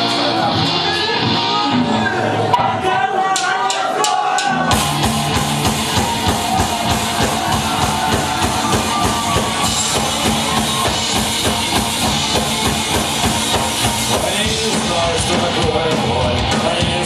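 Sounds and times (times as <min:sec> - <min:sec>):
punk rock band playing: 0:00.0 - 0:17.0
driving drum kit: 0:03.3 - 0:17.0.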